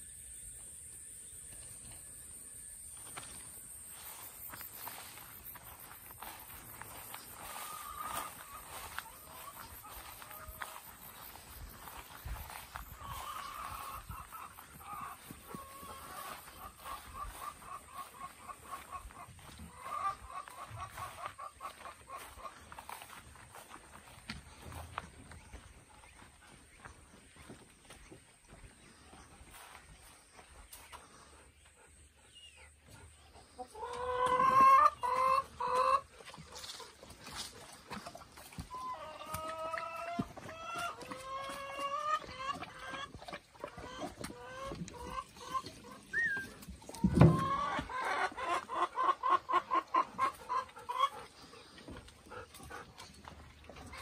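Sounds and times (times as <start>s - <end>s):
chickens clucking: 0.4s - 54.0s
hens squawking: 4.0s - 26.3s, 30.8s - 54.0s.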